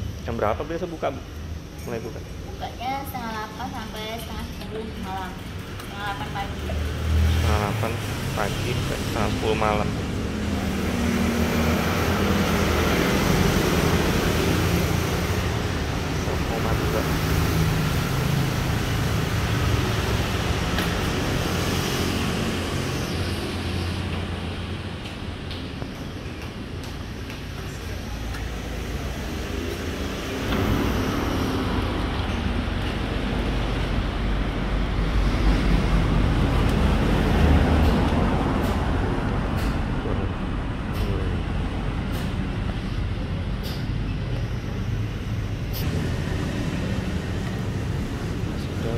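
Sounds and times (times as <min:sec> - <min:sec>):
low rumbling background noise: 0:00.0 - 0:48.9
road traffic noise: 0:00.0 - 0:48.9.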